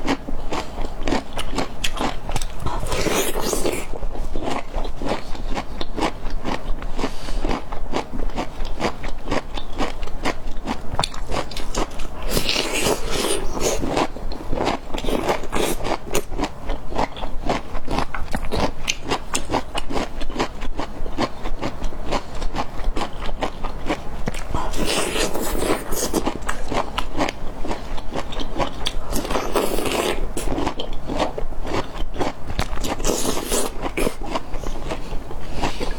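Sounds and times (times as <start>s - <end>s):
chewing crisp crunches: 0.0s - 35.9s.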